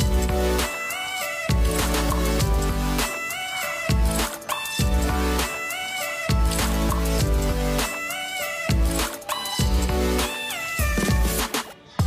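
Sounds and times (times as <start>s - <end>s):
background music with bass note: 0.0s - 11.7s.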